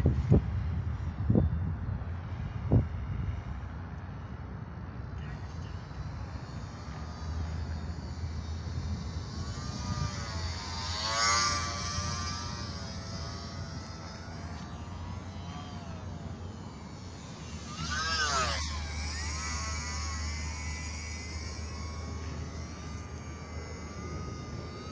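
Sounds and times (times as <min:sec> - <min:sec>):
model plane motor whining: 0:02.0 - 0:24.9.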